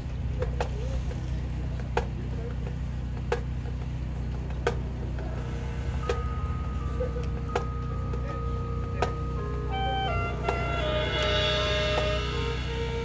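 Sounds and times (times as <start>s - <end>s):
soft held notes: 0.0s - 13.0s
steady low hum: 0.0s - 13.0s.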